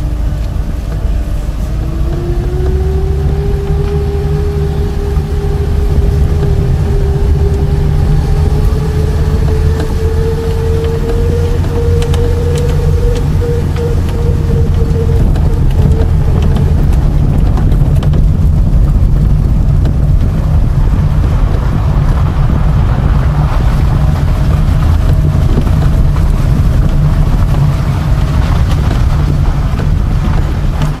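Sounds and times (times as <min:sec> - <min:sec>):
car driving on gravel road: 0:00.0 - 0:31.0
wind on microphone: 0:00.0 - 0:31.0.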